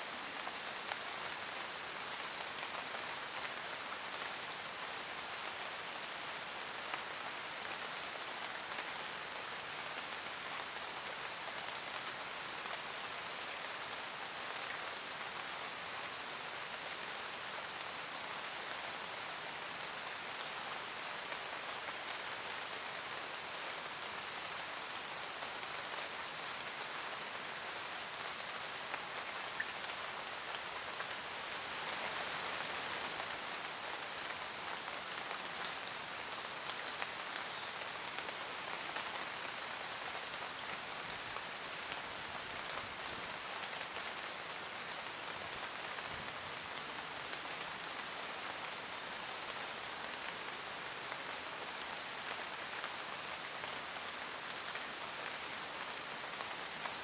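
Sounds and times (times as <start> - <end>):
raindrops pattering on leaves: 0.0 - 57.0
steady rain hiss: 0.0 - 57.0.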